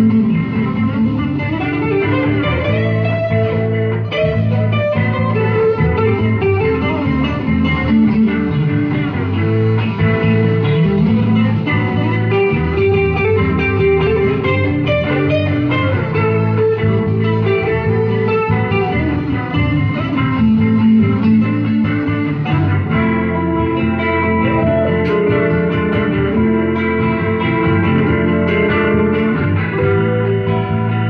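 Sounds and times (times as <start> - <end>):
guitar trio playing: 0.0 - 31.0.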